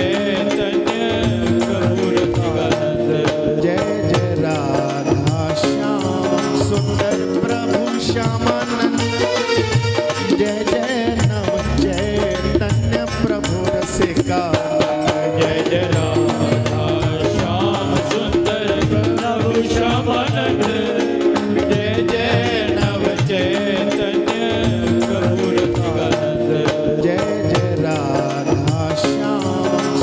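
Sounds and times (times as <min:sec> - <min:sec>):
hand drum beat: 0:00.0 - 0:30.0
jingling percussion: 0:00.0 - 0:30.0.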